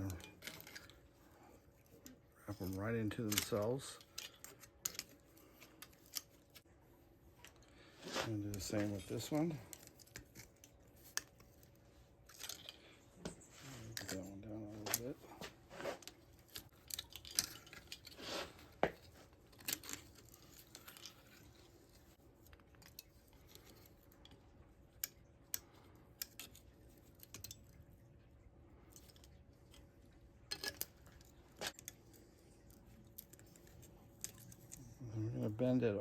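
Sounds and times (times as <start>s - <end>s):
thin metal clicking and scraping: 0.0s - 6.7s, 7.4s - 35.0s.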